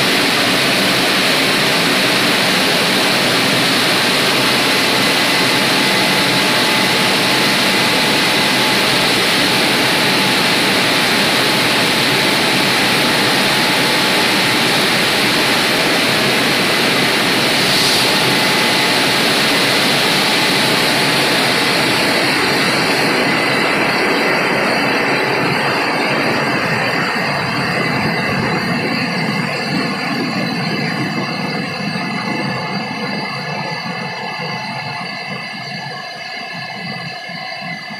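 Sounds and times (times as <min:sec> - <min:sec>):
car wash machine rushing: 0:00.0 - 0:32.9
faint high whine: 0:00.0 - 0:37.9.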